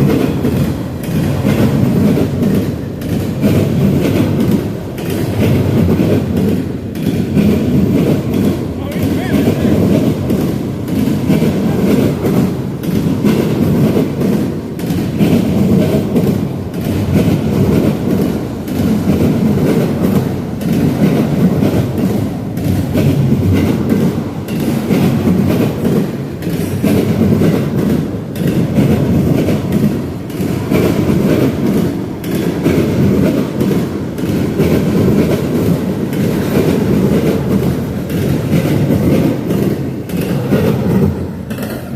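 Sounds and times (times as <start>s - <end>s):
freight train cars rolling past: 0.0s - 41.9s.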